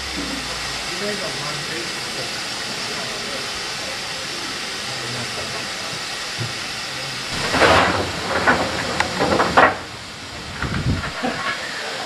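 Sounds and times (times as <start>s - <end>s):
bursts of steam: 0.0s - 12.0s
steam locomotive hissing steam: 0.0s - 12.0s.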